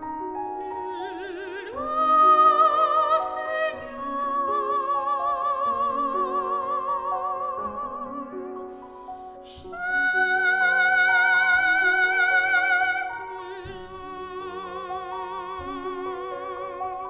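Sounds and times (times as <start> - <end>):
piano accompaniment: 0.0 - 17.0
soprano singing: 0.0 - 17.0.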